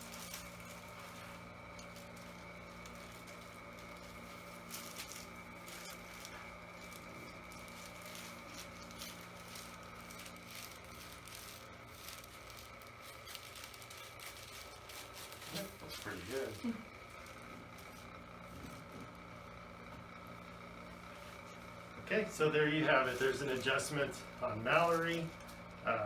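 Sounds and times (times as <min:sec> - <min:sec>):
soft rustling and handling: 0:00.0 - 0:25.8
light crackles: 0:00.0 - 0:26.0
steady electrical hum: 0:00.0 - 0:26.0.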